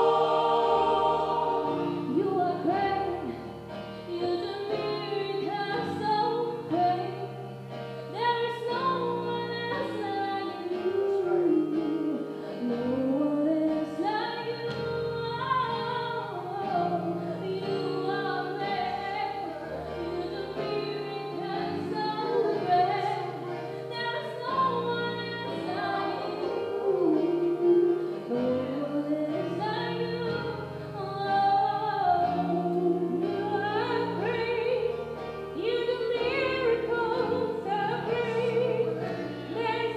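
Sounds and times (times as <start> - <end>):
woman singing lead: 0.0 - 3.5, 4.1 - 7.3, 8.1 - 39.9
gospel choir singing: 0.0 - 7.3, 8.4 - 39.9
instrumental accompaniment: 0.0 - 39.9.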